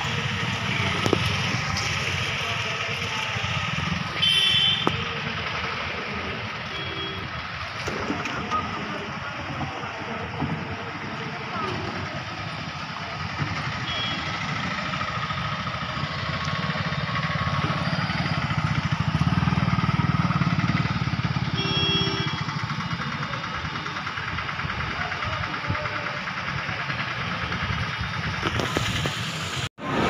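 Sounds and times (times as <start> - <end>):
motorcycle engine running: 0.0 - 30.0
street traffic: 0.0 - 30.0.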